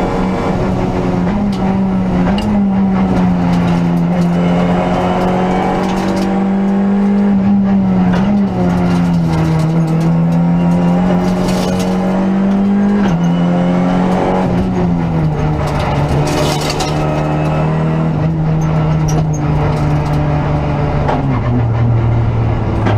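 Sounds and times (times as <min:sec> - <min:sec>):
rally car engine from cabin: 0:00.0 - 0:22.9.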